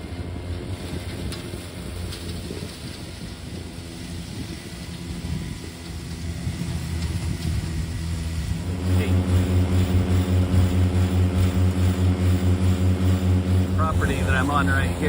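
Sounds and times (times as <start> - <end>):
lawn mower running: 0.0 - 15.0.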